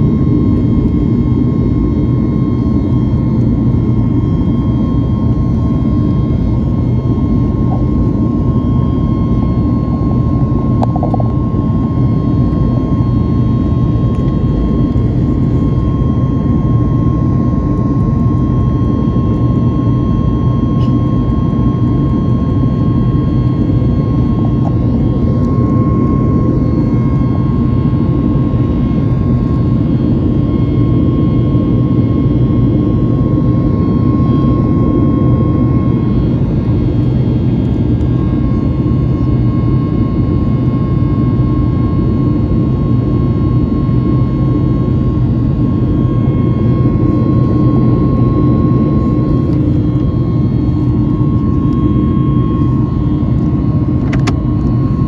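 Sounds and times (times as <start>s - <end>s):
jet engine drone: 0.0s - 55.0s
jet engine whine: 0.0s - 55.0s.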